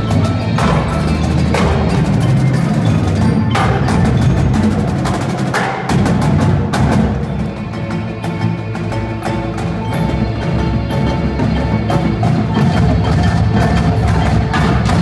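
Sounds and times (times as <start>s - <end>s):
marimbas: 0.0s - 15.0s
snare and tenor drums: 0.0s - 15.0s.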